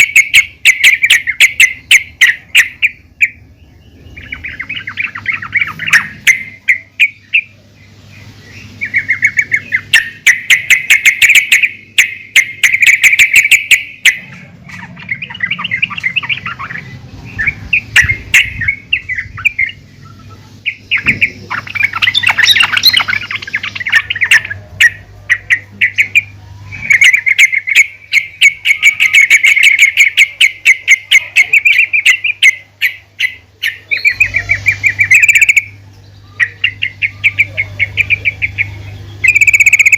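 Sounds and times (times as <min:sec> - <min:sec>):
bird rapid chattering calls: 0:00.0 - 0:39.9.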